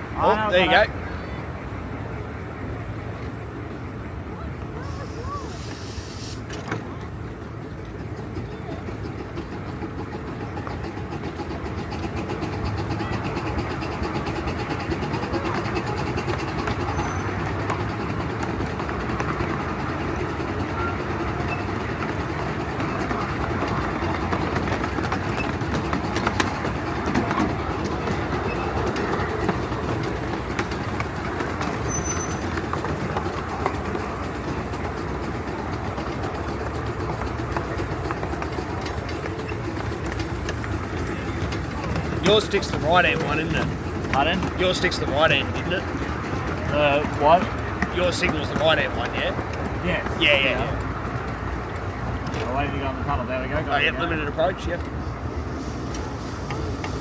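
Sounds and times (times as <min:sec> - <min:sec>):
steam locomotive working: 0:00.0 - 0:57.0
train wheels rumbling on rails: 0:00.0 - 0:57.0.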